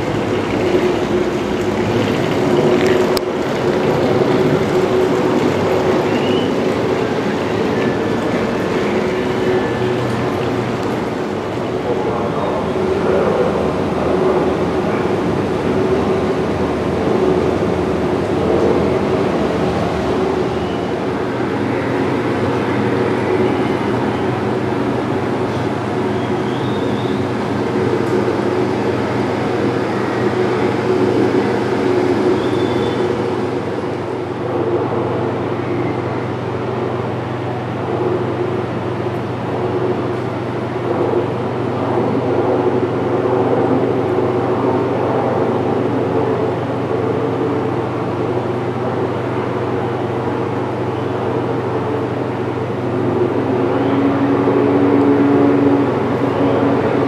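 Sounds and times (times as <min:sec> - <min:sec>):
model trains whirring hum: 0:00.0 - 0:57.0.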